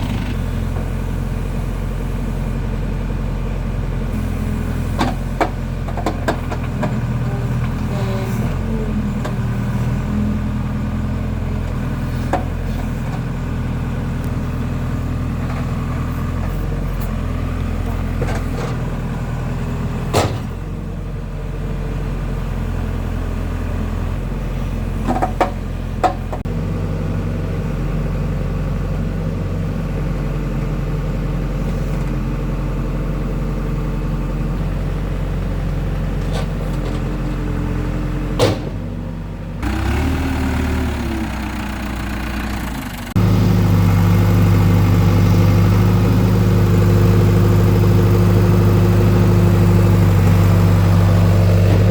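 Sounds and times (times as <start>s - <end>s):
digging machine engine: 0.0s - 51.9s.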